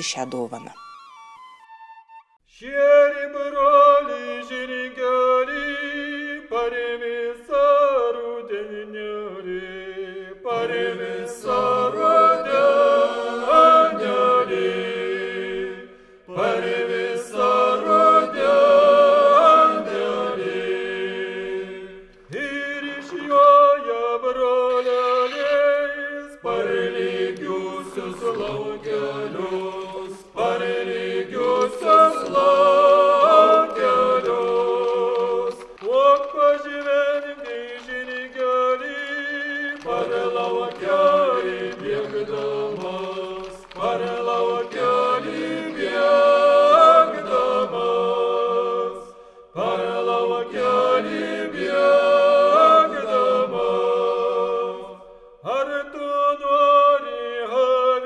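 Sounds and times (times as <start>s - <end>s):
group singing in harmony: 2.6s - 58.0s.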